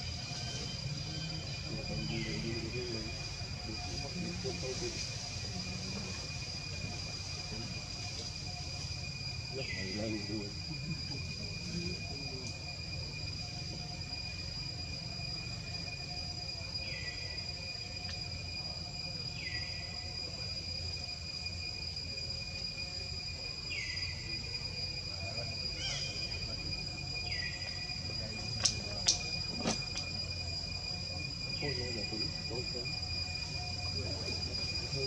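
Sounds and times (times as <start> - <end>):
insect drone: 0.0 - 35.0.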